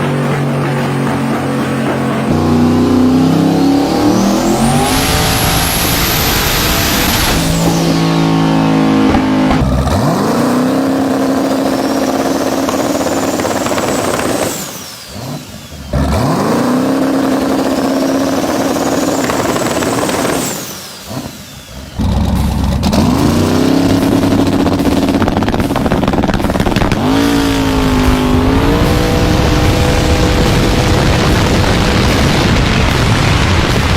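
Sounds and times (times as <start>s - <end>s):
car engine full-throttle pulls: 0.0s - 33.9s.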